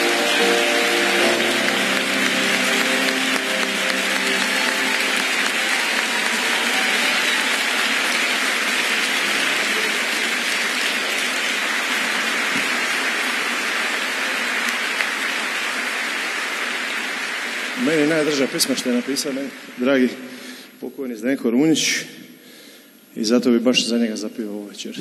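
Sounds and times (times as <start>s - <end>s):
audience applauding: 0.0s - 20.6s.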